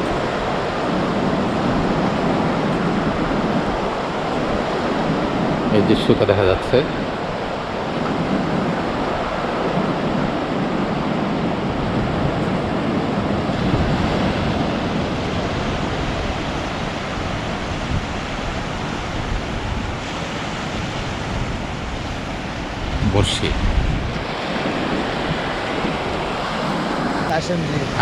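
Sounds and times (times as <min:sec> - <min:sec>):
sea surf on beach: 0:00.0 - 0:28.0
wind buffeting microphone: 0:00.0 - 0:28.0.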